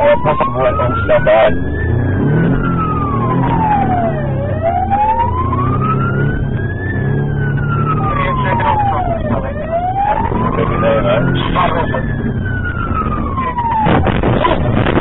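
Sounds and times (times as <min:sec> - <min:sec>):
car engine drone: 0:00.0 - 0:15.0
police siren wailing: 0:00.0 - 0:15.0.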